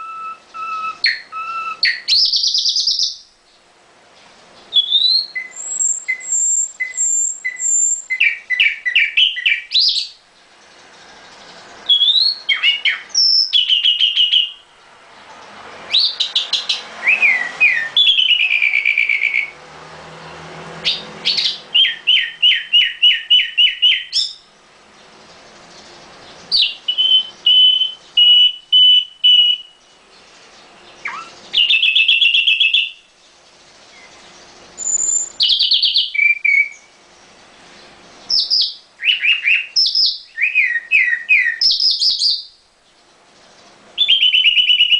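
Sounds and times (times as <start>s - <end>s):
nightingale singing: 0.0s - 3.7s, 4.4s - 19.6s, 20.2s - 44.9s.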